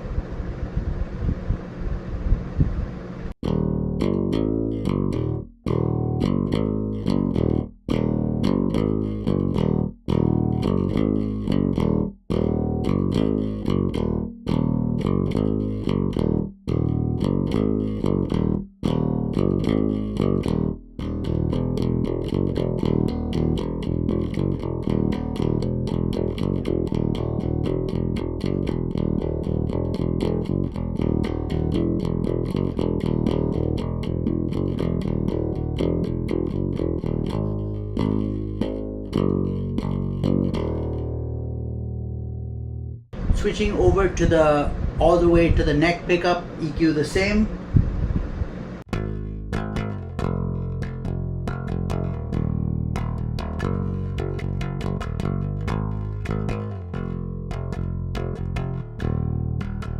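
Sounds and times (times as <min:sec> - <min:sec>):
electric bass riff: 0:03.4 - 0:48.1, 0:48.9 - 0:59.9.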